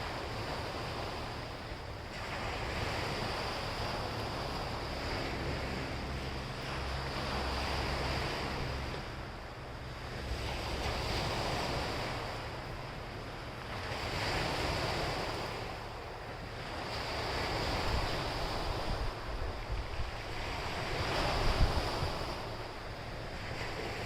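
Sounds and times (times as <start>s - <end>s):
sea waves breaking on shore: 0.0s - 24.0s
wind rumble on microphone: 0.0s - 24.0s.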